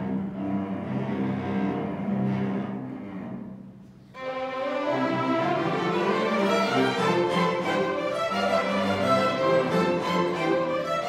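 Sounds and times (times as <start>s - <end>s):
low cello notes: 0.0s - 11.0s
string orchestra playing: 0.0s - 11.0s.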